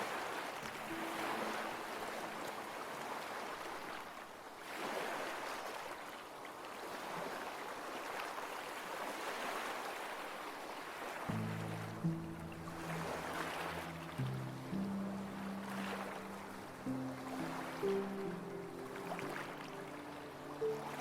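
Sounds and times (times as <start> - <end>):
ocean waves washing on shore: 0.0 - 21.0.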